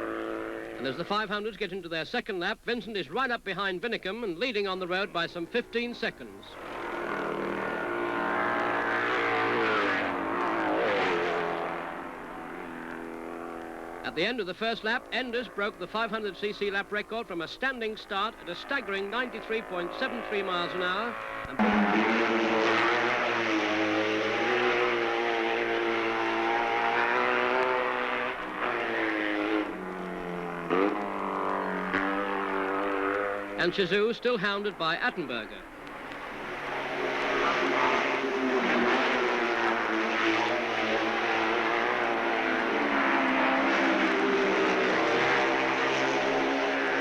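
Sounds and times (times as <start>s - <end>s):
racing motorcycle engine revving: 0.0s - 1.1s, 5.4s - 47.0s.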